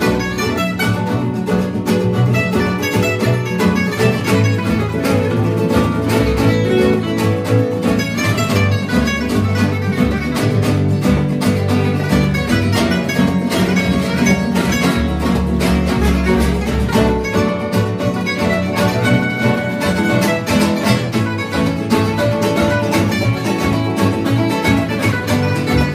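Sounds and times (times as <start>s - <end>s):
guitar picking melody: 0.0s - 25.9s
plucked double bass: 0.0s - 25.9s
strummed guitar rhythm: 0.0s - 25.9s.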